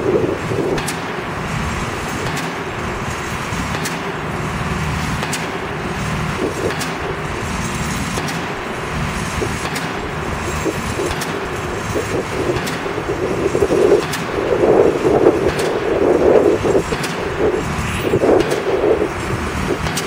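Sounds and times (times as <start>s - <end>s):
low rumble of engines: 0.0s - 20.0s.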